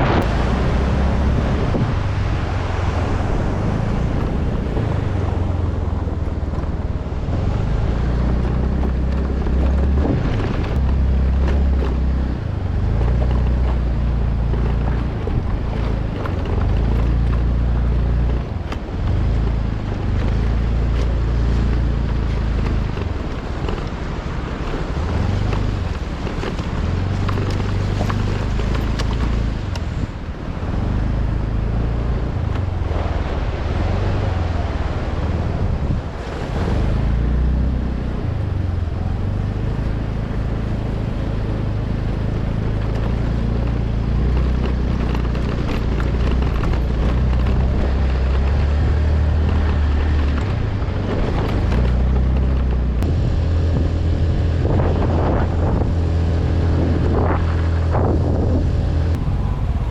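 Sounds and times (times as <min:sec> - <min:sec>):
vehicle engine running: 0:00.0 - 0:59.9
wind buffeting microphone: 0:00.0 - 0:59.9.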